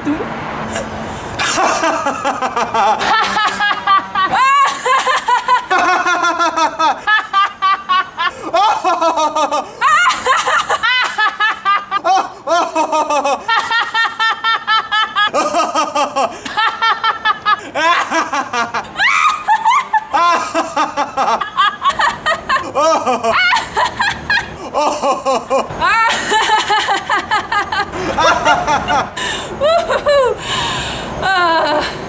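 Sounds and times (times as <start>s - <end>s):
man laughing: 1.4s - 30.4s, 31.2s - 32.0s
woman laughing: 1.4s - 30.6s, 31.2s - 32.0s.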